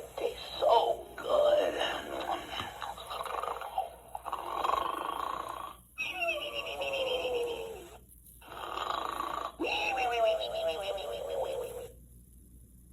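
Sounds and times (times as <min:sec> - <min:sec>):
toy electronic snoring: 0:00.3 - 0:11.9.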